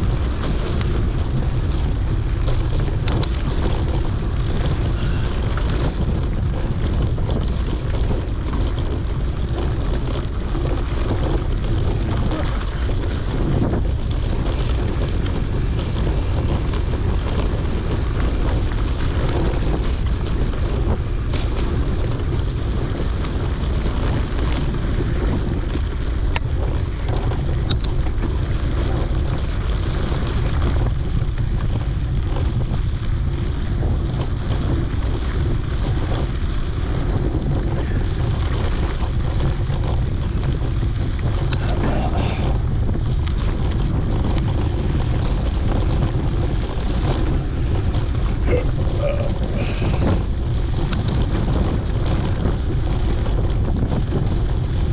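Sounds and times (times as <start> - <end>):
bike tyres rolling on dirt: 0.0 - 54.9
wind noise on microphone: 0.0 - 54.9.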